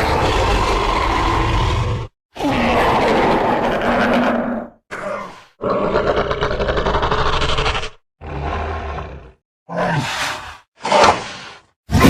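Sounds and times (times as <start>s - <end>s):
dinosaur roaring: 0.0s - 10.4s.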